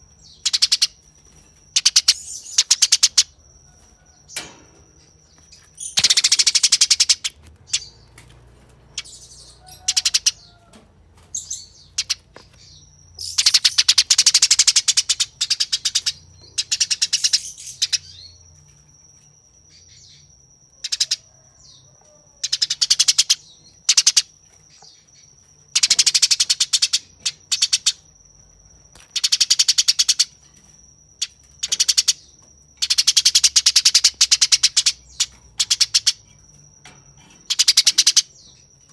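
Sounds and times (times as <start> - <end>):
sparrows chattering harshly: 0.0 - 18.5, 22.4 - 38.9.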